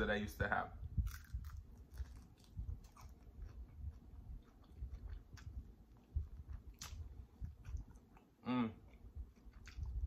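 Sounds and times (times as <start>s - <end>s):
person chewing with mouth clicks: 1.0s - 10.0s.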